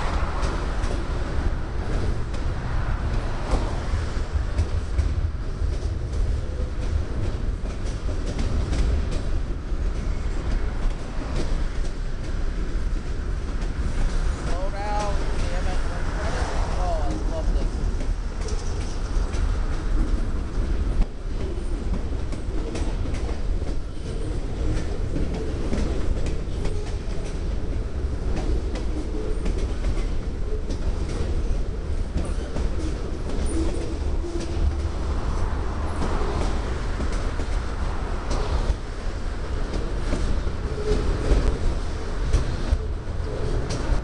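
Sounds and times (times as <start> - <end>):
train rumbling past: 0.0 - 44.0
wheels clicking over rail joints: 0.0 - 44.0.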